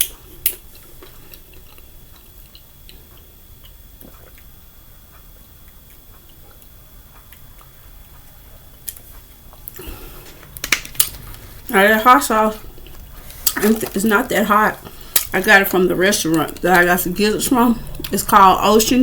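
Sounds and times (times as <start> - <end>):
person chewing crunchy food: 0.0 - 11.8, 12.4 - 18.9.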